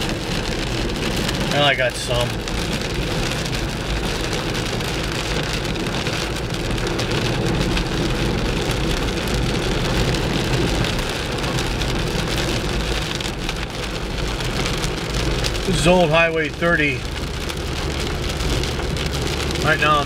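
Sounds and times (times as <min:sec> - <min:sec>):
car engine running: 0:00.0 - 0:20.0
rain pattering: 0:00.0 - 0:20.0.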